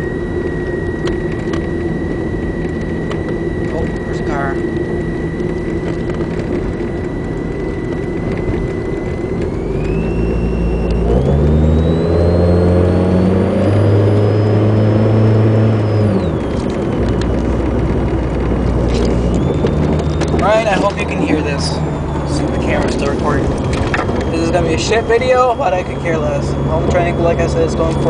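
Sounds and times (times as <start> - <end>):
car engine from inside cabin: 0.0 - 28.0
thin high whine: 0.0 - 28.0.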